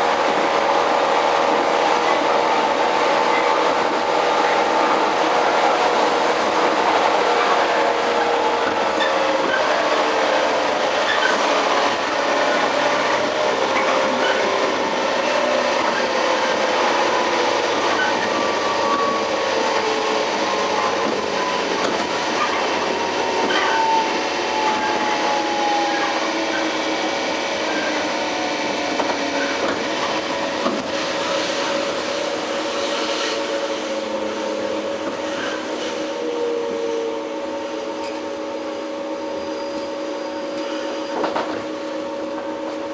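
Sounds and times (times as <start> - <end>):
wheels rumbling on rail: 0.0 - 42.9.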